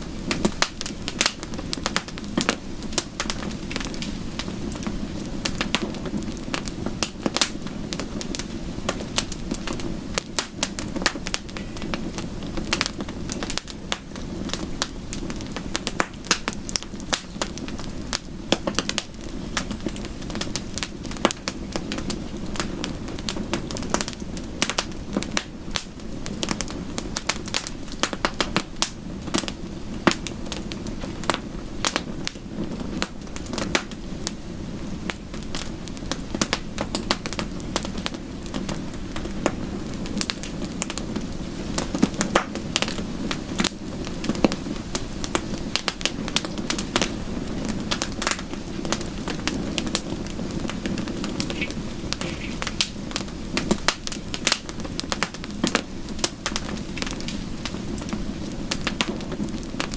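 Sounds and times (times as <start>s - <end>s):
soft rain: 0.0s - 59.9s
wood fire crackling: 0.0s - 59.9s.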